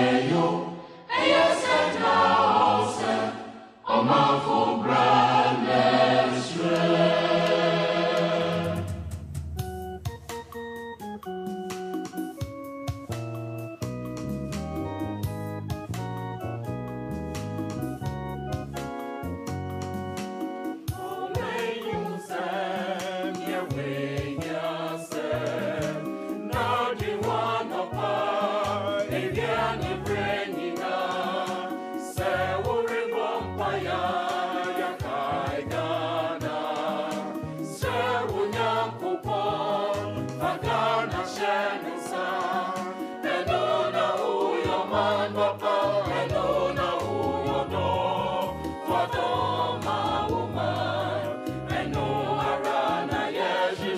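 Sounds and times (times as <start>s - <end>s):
choir singing gospel song: 0.0s - 9.4s, 19.9s - 53.9s
keyboard and bass: 0.0s - 22.2s, 22.8s - 53.9s.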